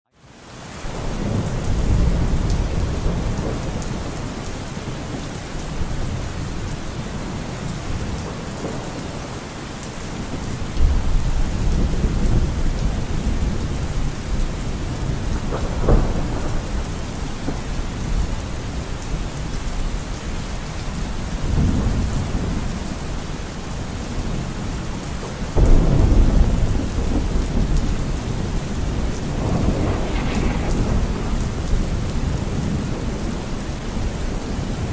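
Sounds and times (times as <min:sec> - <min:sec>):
steady rain: 0:00.1 - 0:34.9
thunder rumbling: 0:00.9 - 0:09.5, 0:10.1 - 0:20.0, 0:21.0 - 0:34.9.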